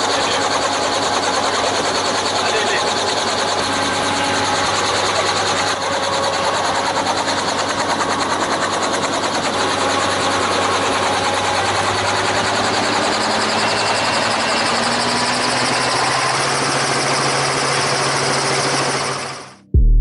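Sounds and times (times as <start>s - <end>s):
helicopter rotor chop: 0.0s - 19.6s.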